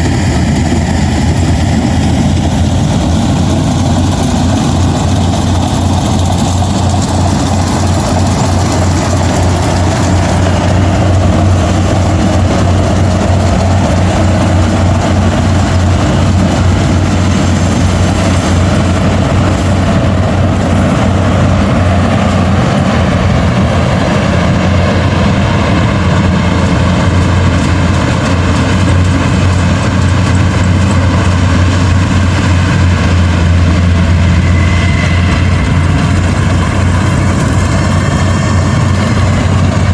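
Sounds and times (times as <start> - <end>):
combine harvester engine hum: 0.0 - 39.9
threshing machinery clatter: 0.0 - 39.9.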